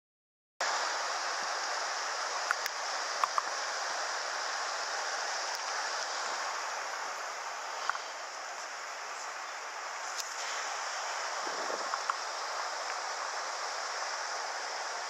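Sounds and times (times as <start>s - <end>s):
river rushing over stones: 0.6s - 15.0s.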